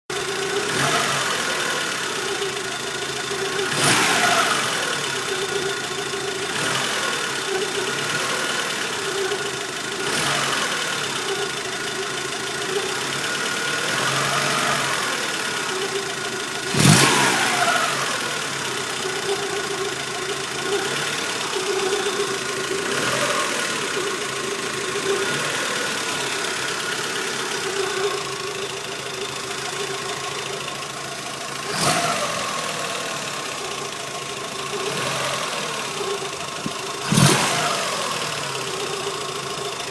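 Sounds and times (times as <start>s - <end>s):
car engine running: 0.1s - 39.9s.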